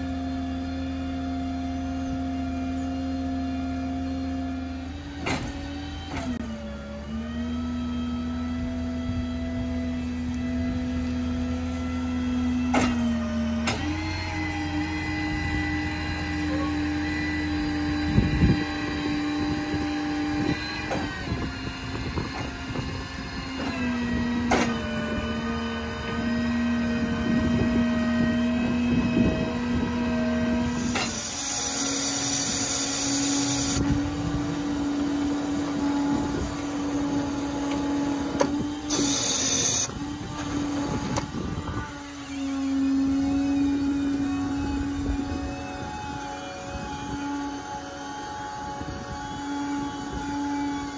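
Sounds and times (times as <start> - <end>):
hydraulic machine whine: 0.0 - 50.9.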